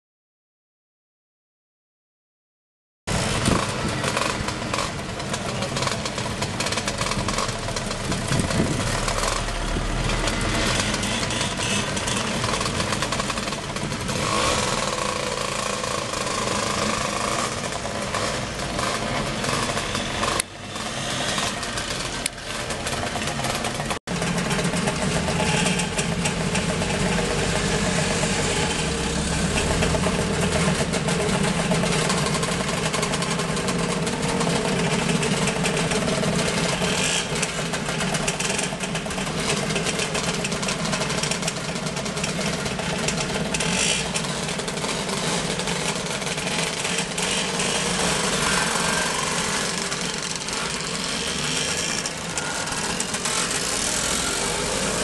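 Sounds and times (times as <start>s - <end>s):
scooter engines idling and blipping: 3.1s - 55.0s
scooter engines running together: 3.1s - 55.0s.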